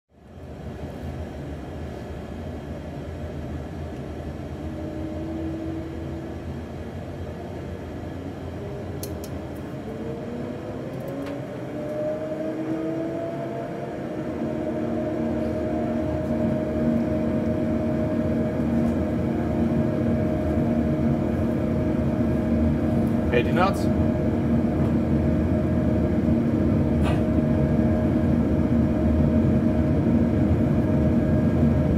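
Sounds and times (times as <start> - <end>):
jet engine spooling up: 2.9 - 31.9.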